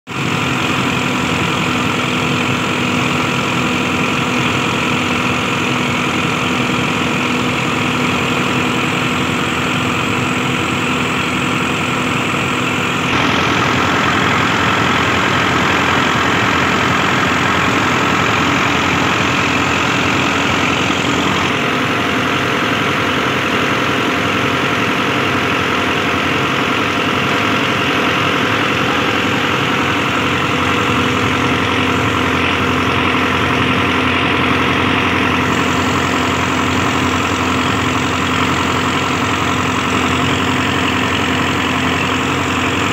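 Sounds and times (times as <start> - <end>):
grain mill machinery turning: 0.1 - 42.9
tractor diesel engine running: 0.1 - 42.9.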